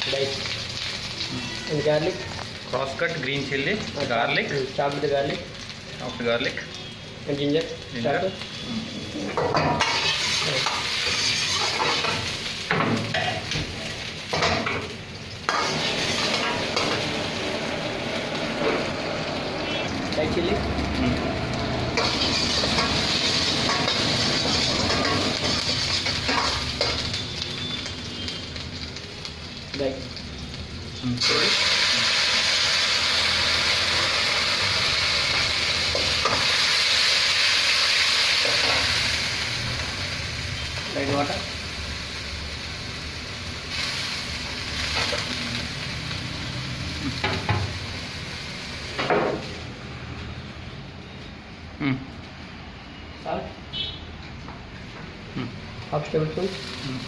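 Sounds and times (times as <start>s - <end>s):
vegetables sizzling in oil: 0.0s - 53.8s, 54.6s - 57.0s.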